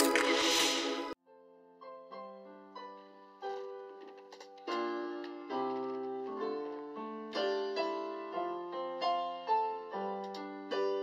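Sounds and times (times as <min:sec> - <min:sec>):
slow keyboard piano music: 0:00.0 - 0:11.0.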